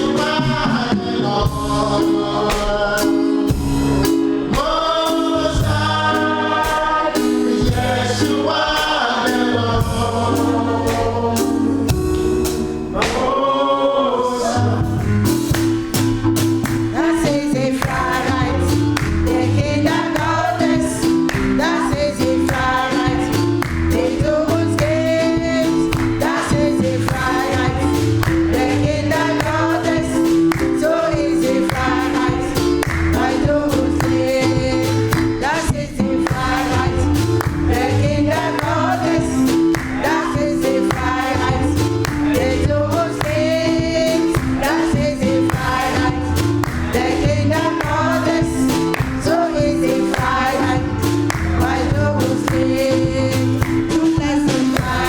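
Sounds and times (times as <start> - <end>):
bass and instruments: 0.0 - 55.0
choir singing gospel music: 0.0 - 55.0.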